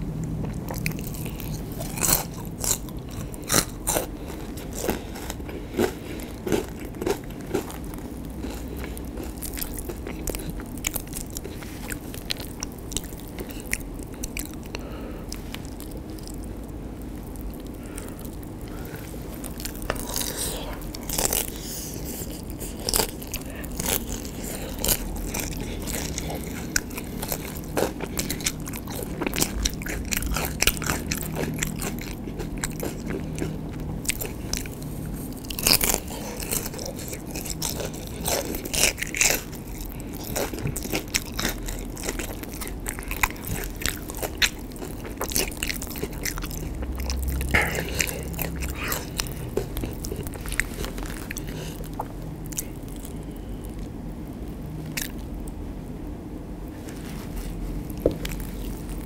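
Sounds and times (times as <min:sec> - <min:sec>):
wet chewing: 0:00.2 - 0:53.9, 0:54.8 - 0:55.2, 0:57.5 - 0:59.0
crisp crunching of fried food: 0:00.3 - 0:55.5, 0:57.1 - 0:59.0.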